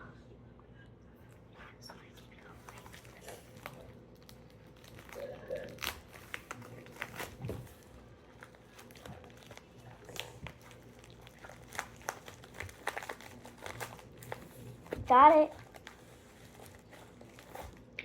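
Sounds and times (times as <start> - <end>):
packaging crinkling and tearing: 2.6 - 18.0.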